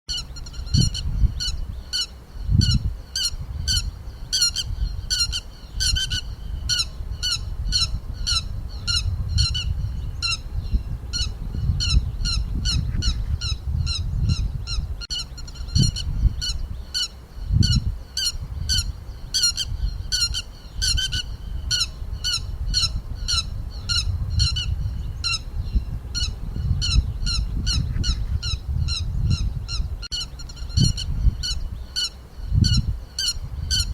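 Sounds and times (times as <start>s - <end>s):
lapwing calling: 0.1s - 33.9s.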